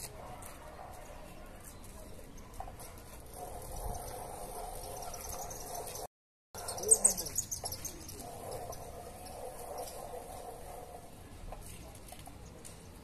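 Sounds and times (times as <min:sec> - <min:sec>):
birds chirping: 0:01.1 - 0:13.0.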